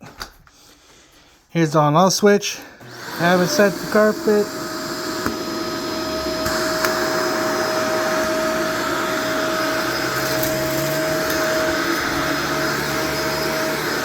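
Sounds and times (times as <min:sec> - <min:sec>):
upright vacuum cleaner whining: 0:02.7 - 0:14.0.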